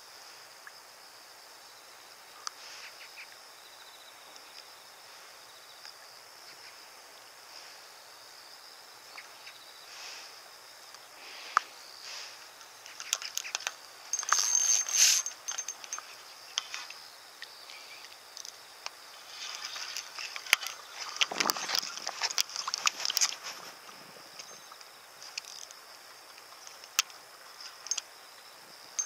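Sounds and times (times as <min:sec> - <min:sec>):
insect buzz: 0:00.0 - 0:29.0.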